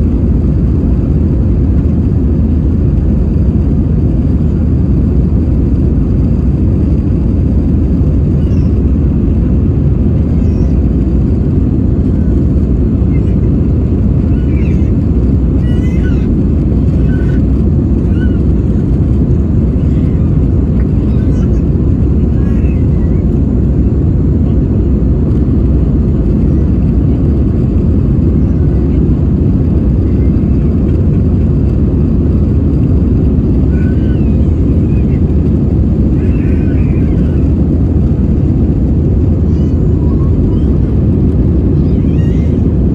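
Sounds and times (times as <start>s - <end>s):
airplane cabin engine and airflow noise: 0.0s - 42.9s.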